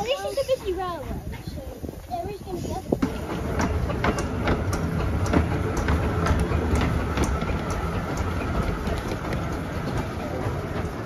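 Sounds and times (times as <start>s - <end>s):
steam locomotive rumbling past: 1.8s - 11.0s
wheels clicking on track: 1.8s - 11.0s.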